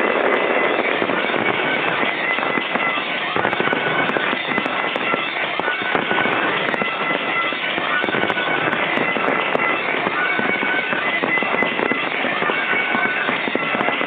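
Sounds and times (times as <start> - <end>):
fireworks bangs and pops: 0.0 - 14.0
music playing: 0.0 - 14.0.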